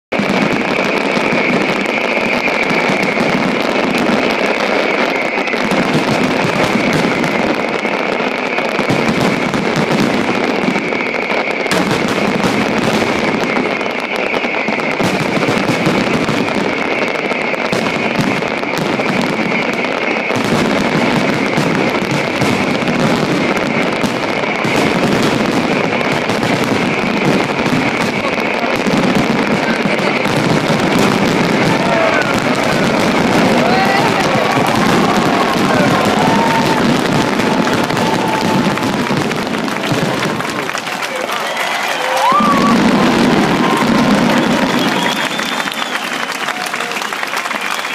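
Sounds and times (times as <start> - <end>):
fireworks bursting and crackling: 0.1 - 47.9.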